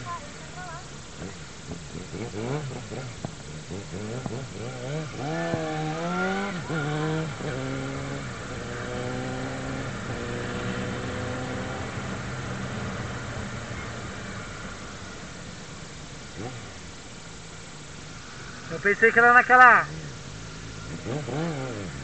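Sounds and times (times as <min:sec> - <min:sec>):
motorcycle engine accelerating: 0:00.0 - 0:17.9, 0:19.8 - 0:22.0.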